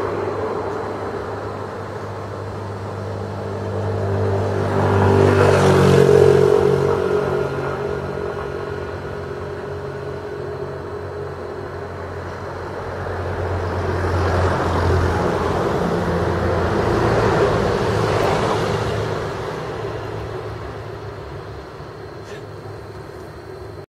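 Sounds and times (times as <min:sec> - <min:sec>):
passing vehicle rushing: 0:00.0 - 0:23.8.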